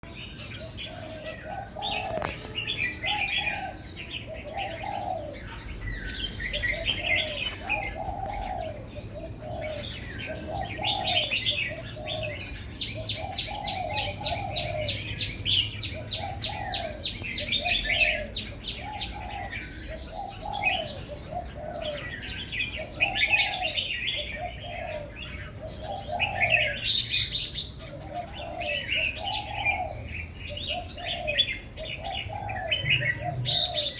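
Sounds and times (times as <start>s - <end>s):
dove cooing: 0.0s - 33.9s
small birds chirping: 0.0s - 33.9s.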